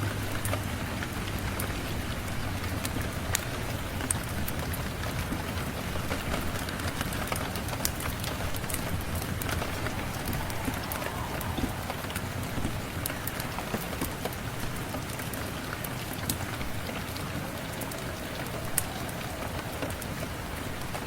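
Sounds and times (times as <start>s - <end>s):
rain falling: 0.0s - 21.0s
wood fire crackling: 2.8s - 15.1s, 16.0s - 21.0s.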